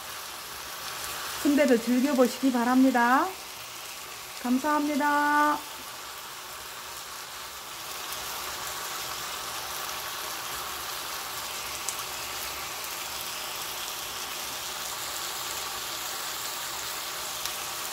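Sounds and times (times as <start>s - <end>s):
stir-fry sizzling in a wok: 0.0s - 17.9s.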